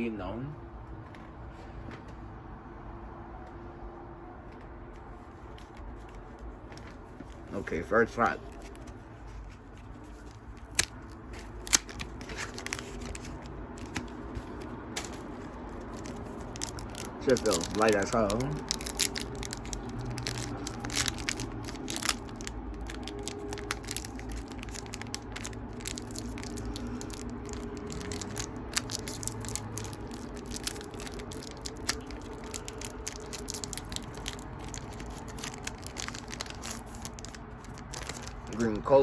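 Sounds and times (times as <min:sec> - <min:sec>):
foil wrapper crinkling and tearing: 0:07.5 - 0:39.0.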